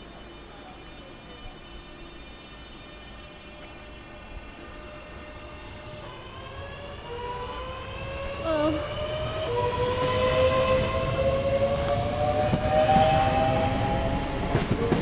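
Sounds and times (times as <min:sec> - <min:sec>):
train traction motors whining: 0:00.1 - 0:15.0.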